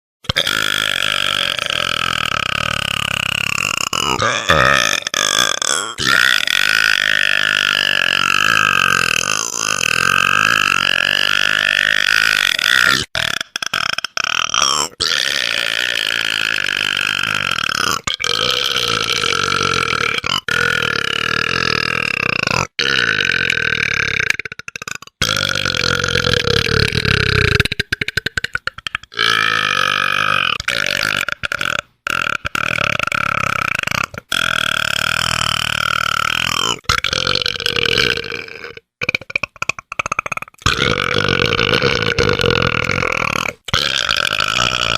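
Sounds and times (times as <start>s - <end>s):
man burping loudly: 0.2s - 44.9s.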